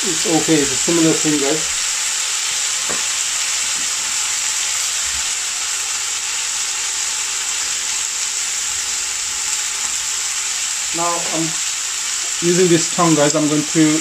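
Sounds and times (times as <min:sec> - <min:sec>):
meat sizzling in grill pan: 0:00.0 - 0:14.0.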